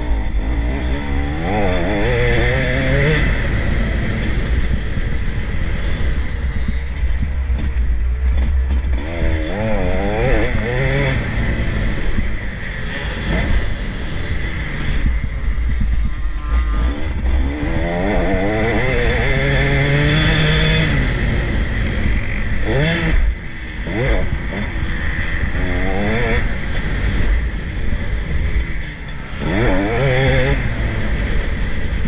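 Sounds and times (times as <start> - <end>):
motocross bikes revving past: 0.0 - 7.7, 8.4 - 32.0.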